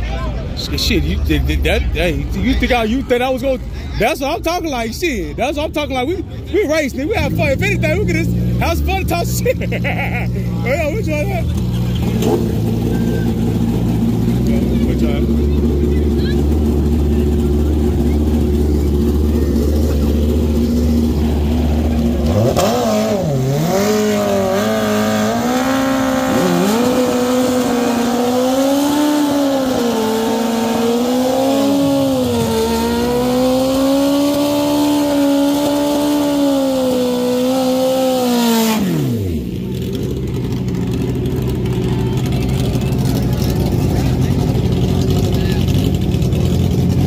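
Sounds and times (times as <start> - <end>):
motorcycle engines revving: 0.0 - 47.0
tyres spinning in a burnout: 5.8 - 47.0.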